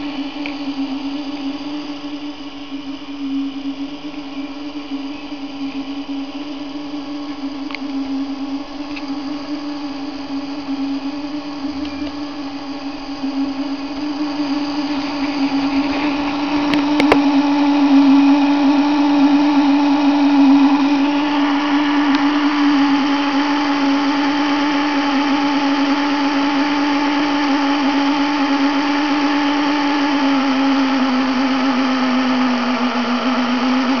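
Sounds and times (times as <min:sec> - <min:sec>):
small electric motor humming: 0:00.0 - 0:34.0.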